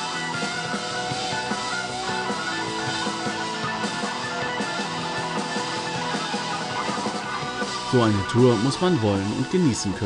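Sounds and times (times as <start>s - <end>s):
electric guitar: 0.0s - 10.0s
keyboard: 0.0s - 10.0s
rock band playing live: 0.0s - 10.0s.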